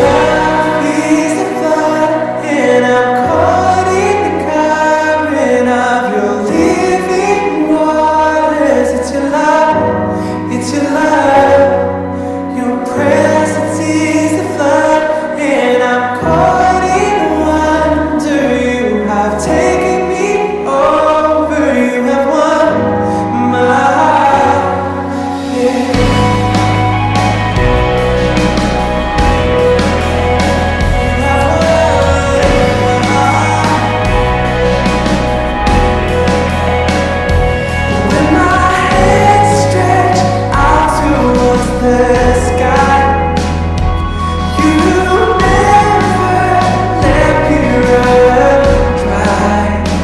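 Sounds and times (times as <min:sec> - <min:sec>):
choir singing worship song: 0:00.0 - 0:09.6, 0:12.5 - 0:50.0
sustained bass accompaniment: 0:00.0 - 0:15.6, 0:22.5 - 0:50.0.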